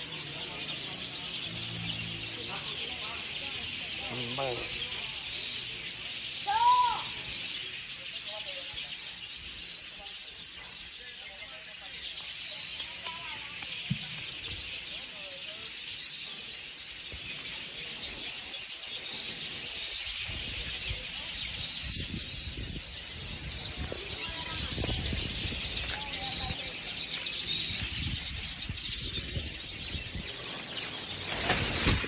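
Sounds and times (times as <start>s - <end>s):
chorus of small birds chirping: 0.0s - 32.0s.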